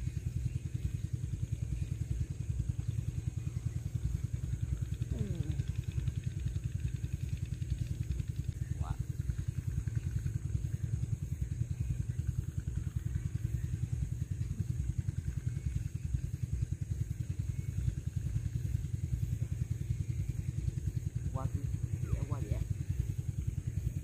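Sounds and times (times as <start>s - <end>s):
small engine pulsing: 0.0s - 24.0s.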